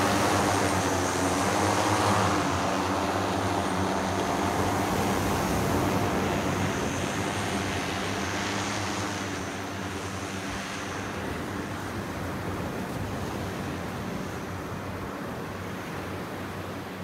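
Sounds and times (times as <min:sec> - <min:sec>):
propellers humming: 0:00.0 - 0:17.0.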